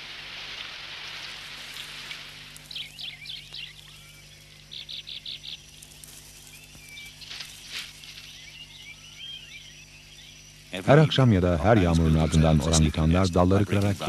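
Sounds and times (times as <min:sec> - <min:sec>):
birds chirping and calling: 0:02.6 - 0:14.0.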